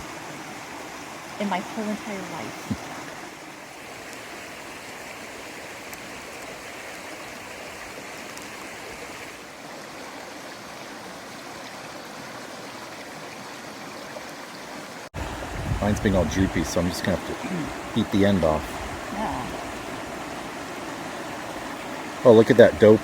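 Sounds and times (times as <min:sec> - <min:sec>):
creek water flowing: 0:00.0 - 0:23.0.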